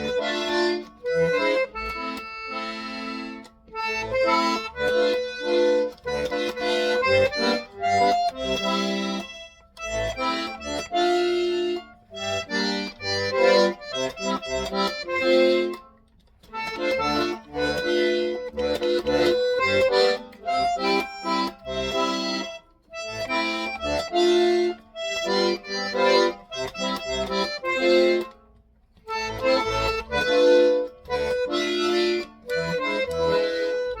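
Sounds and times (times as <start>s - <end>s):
accordion melody with chords: 0.0s - 34.0s.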